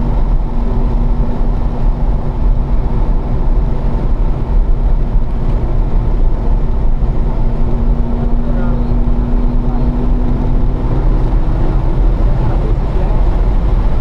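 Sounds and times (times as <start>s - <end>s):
car engine running steadily: 0.0s - 14.0s
wind and road noise: 0.0s - 14.0s.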